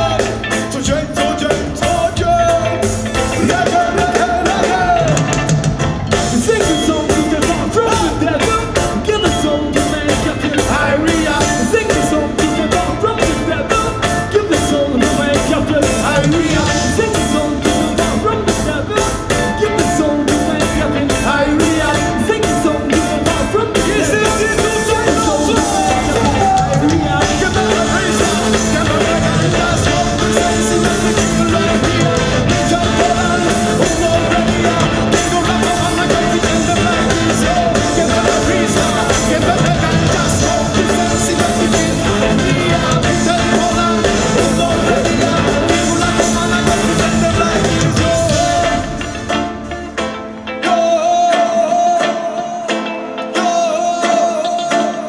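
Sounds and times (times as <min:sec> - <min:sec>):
drum strokes: 0:00.0 - 0:50.2
person singing: 0:00.0 - 0:55.0
reggae band playing live: 0:00.0 - 0:55.0.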